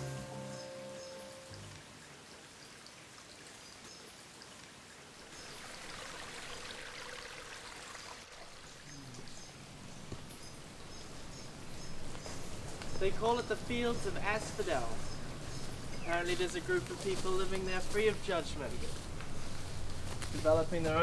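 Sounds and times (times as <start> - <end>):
forest stream trickling: 0.0 - 21.0.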